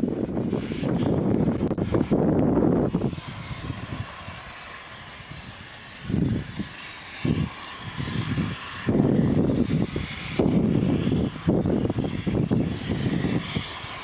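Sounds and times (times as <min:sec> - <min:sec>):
steady rushing hiss: 0:00.0 - 0:14.0
wind buffeting microphone: 0:00.0 - 0:14.0.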